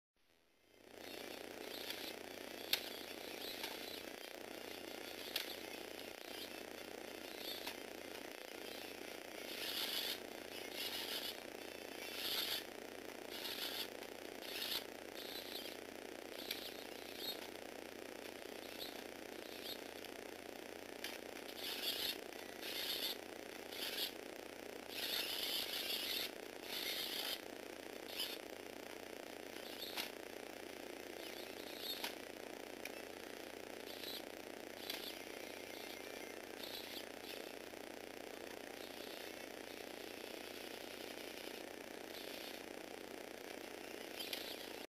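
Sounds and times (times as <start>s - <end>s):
steady low hum: 0.2s - 44.9s
toy car motors whirring: 0.8s - 17.6s, 18.4s - 28.6s, 29.5s - 30.2s, 31.2s - 37.6s, 38.4s - 43.0s, 43.6s - 44.9s.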